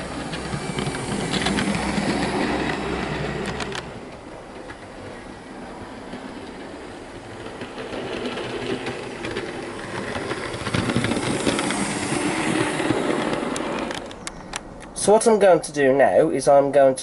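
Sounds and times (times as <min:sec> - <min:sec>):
model train rattling over track: 0:00.0 - 0:17.0.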